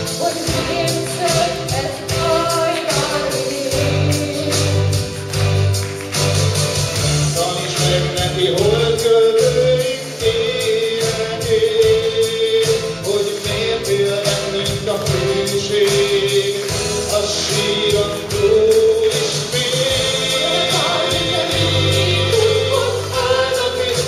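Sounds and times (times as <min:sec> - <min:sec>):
man singing into microphone: 0:00.0 - 0:04.9, 0:07.2 - 0:24.0
amplified instrumental accompaniment: 0:00.0 - 0:24.0.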